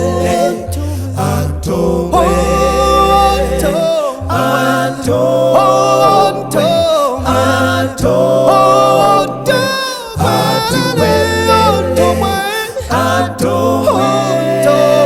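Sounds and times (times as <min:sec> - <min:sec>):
a cappella gospel group singing: 0:00.0 - 0:15.0
bass voice holding long notes: 0:00.0 - 0:15.0.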